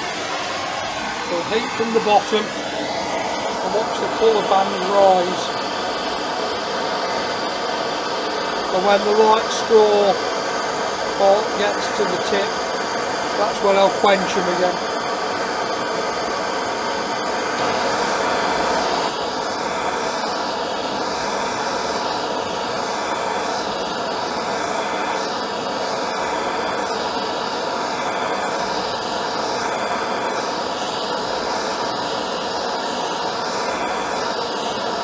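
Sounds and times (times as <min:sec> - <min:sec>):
blowtorch flame roaring hiss: 0:00.0 - 0:35.0.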